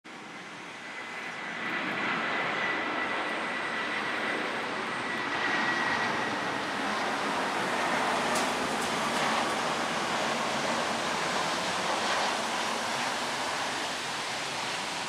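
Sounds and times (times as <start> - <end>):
jet engine roar with whine: 0.1 - 15.0.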